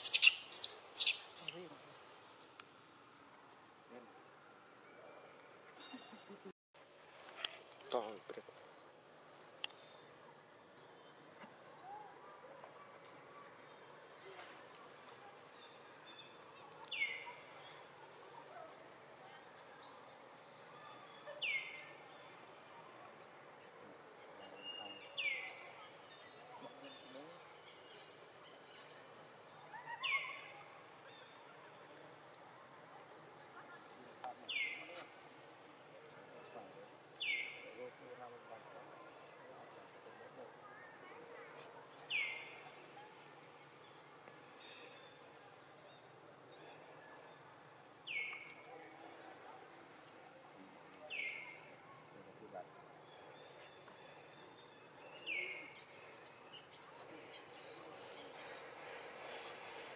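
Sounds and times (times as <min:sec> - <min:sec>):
faint outdoor background noise: 0:00.0 - 0:59.9
birds: 0:07.3 - 0:59.9.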